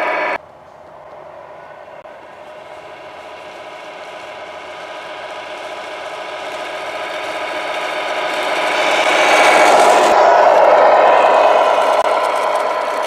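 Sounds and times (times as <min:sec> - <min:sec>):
toy truck motor whine: 0:02.1 - 0:13.0.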